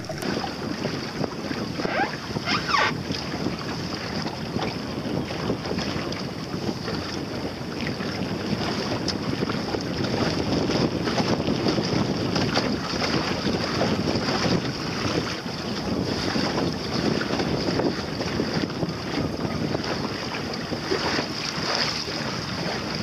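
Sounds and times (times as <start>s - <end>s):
water rushing along boat hull: 0.0s - 23.0s
wind buffeting microphone: 0.0s - 23.0s.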